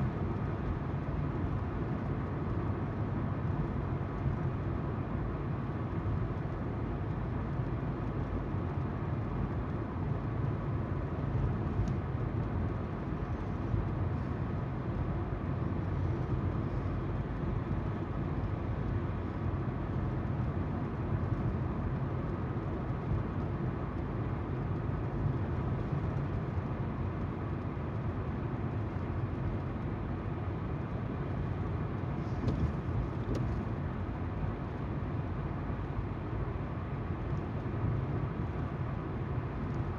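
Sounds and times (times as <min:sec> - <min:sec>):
low engine hum: 0:00.0 - 0:39.9.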